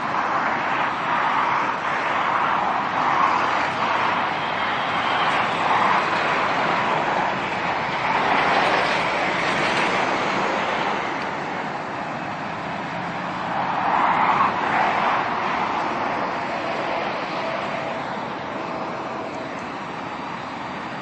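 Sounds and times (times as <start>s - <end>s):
motorway vehicles passing: 0.0s - 21.0s.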